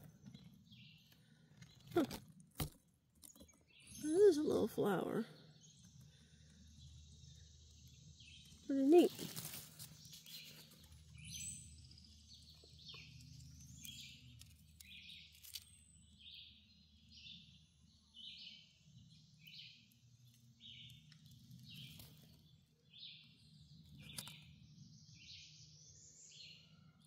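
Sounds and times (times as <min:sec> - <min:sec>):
bird chirping: 0:00.0 - 0:02.2, 0:03.2 - 0:27.0.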